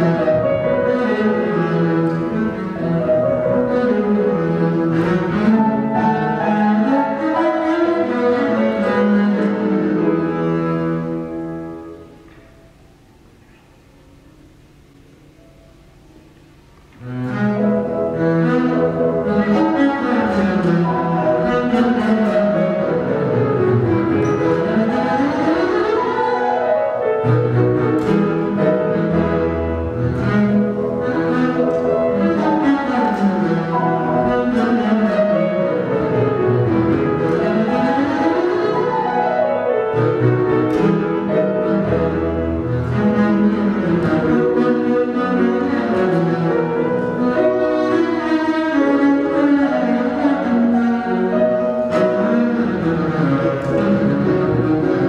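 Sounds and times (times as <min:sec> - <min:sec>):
bowed double bass: 0:00.0 - 0:12.6, 0:13.2 - 0:55.0
grand piano: 0:00.0 - 0:55.0.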